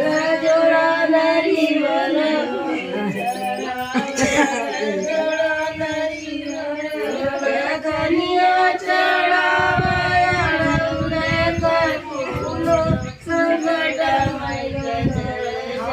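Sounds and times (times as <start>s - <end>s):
person singing chant-like melody: 0.0s - 15.9s.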